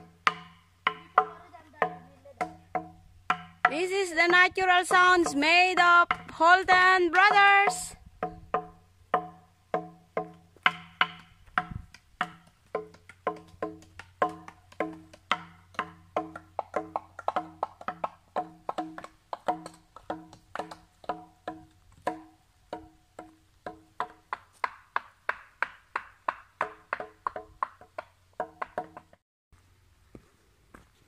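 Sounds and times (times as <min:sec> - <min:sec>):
sticks knocking wooden logs: 0:00.0 - 0:29.2.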